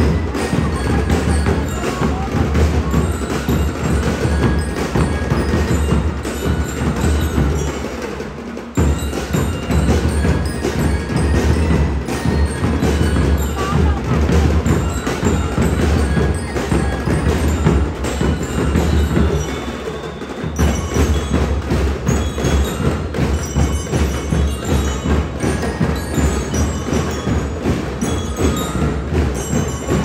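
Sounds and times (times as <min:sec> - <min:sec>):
bass and snare drums beating: 0:00.0 - 0:30.0
bell-lyre melody: 0:00.0 - 0:30.0.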